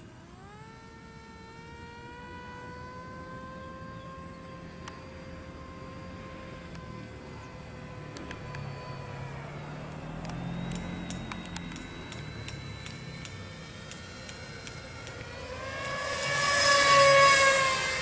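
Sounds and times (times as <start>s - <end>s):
model jet motor whine: 0.0s - 18.0s.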